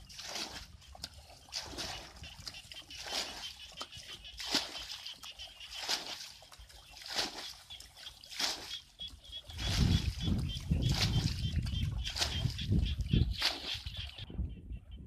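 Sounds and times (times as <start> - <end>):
bucket scooping and splashing water: 0.0 - 14.2.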